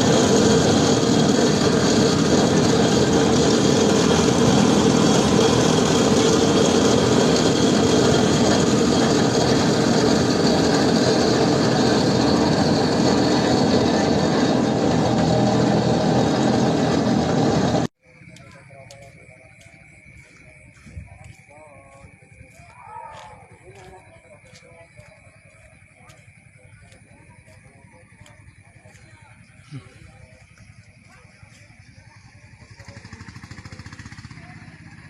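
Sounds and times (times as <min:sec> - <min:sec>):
heavy road-work machinery running: 0:00.0 - 0:22.7, 0:23.6 - 0:35.0.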